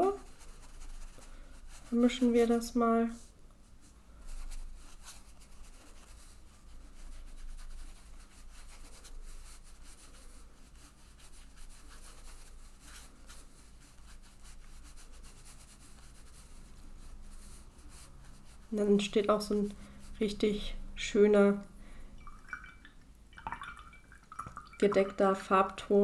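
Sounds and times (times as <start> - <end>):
paintbrush rubbing on paper: 0.0 - 21.0.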